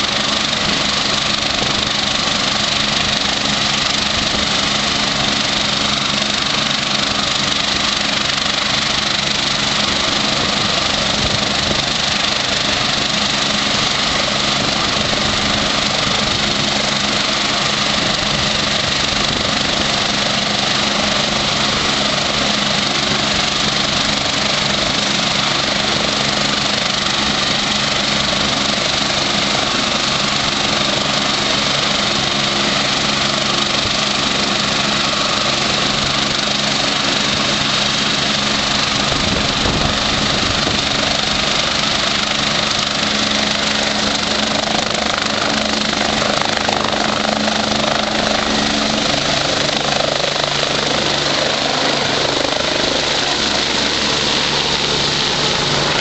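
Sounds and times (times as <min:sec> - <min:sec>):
helicopter turbine whine: 0:00.0 - 0:56.0.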